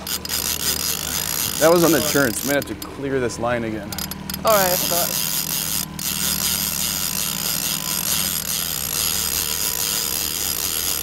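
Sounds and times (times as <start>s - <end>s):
fishing reel clicker ratcheting: 0.0s - 2.9s, 3.9s - 11.0s
boat engine hum: 0.0s - 11.0s.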